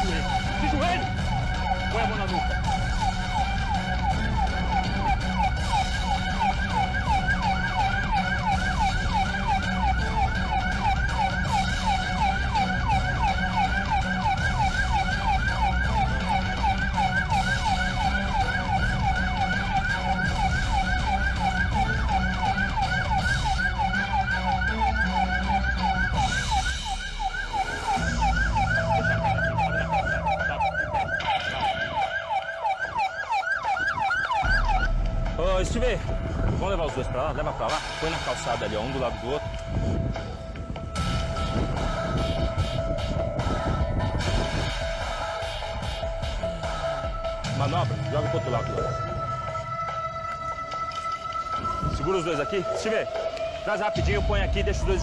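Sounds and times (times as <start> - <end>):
police siren yelping: 0.0 - 55.0.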